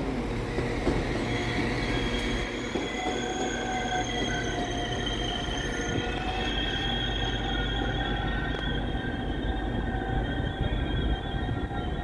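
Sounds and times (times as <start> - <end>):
low train rumble: 0.0 - 12.0
train wheels squealing: 0.5 - 12.0.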